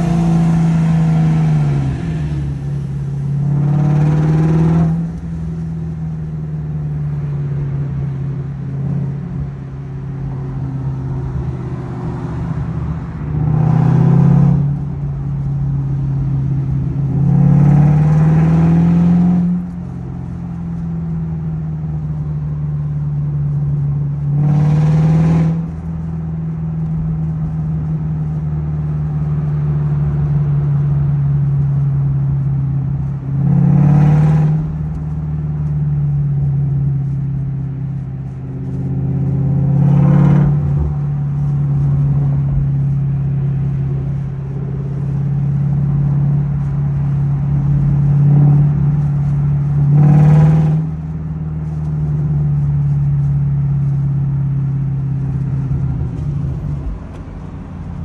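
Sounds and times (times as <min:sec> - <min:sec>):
engine throttle revs: 0:00.0 - 0:09.6, 0:10.2 - 0:21.0, 0:23.7 - 0:58.0
low exhaust drone: 0:00.0 - 0:58.0.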